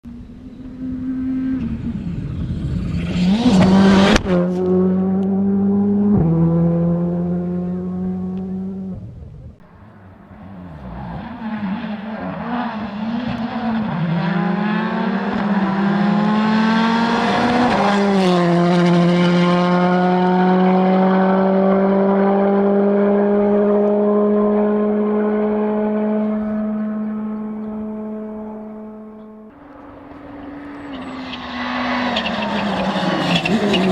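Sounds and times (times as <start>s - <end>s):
car approaching and accelerating: 0.1s - 33.9s
rally car engine revving: 0.5s - 33.9s.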